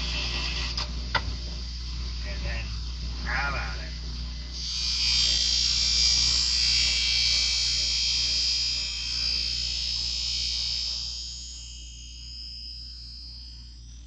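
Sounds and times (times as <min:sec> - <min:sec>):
knife hissing on grinding wheel: 0:00.0 - 0:00.9, 0:03.2 - 0:14.0
bench grinder motor hum: 0:00.0 - 0:14.0.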